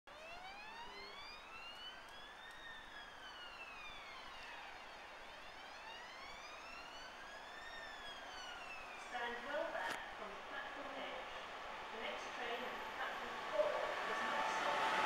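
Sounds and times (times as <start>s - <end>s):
emergency siren wailing: 0.1s - 9.8s, 11.2s - 15.0s.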